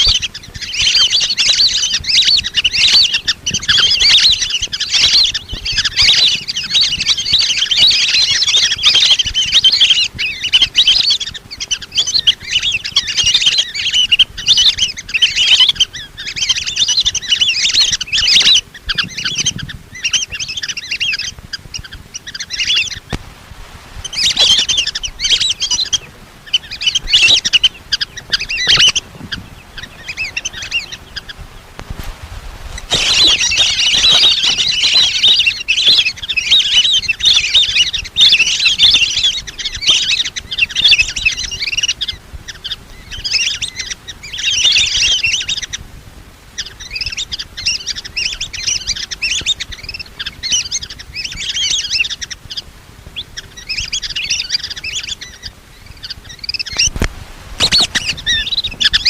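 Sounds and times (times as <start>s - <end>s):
ducks whistling calls: 0.0s - 59.0s.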